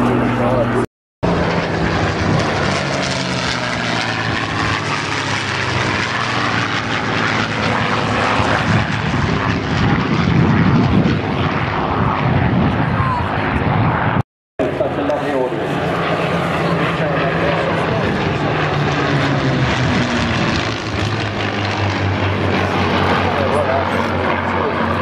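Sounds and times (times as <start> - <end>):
propeller plane engine drone: 0.0 - 25.0.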